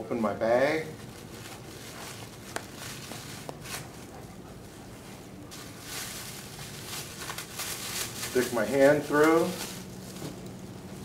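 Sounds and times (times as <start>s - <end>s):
plastic bag rustling: 0.6s - 11.0s
plastic bag crinkling: 0.8s - 4.2s, 5.5s - 11.0s.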